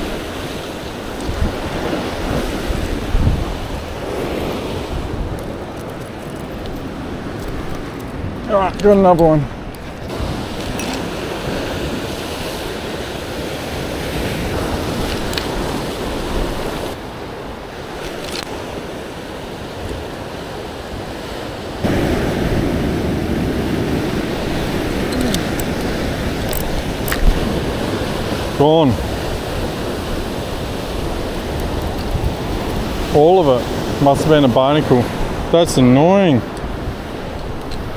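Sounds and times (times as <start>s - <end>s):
waves washing against rocks: 0.0s - 37.9s
wind buffeting microphone: 0.0s - 37.9s.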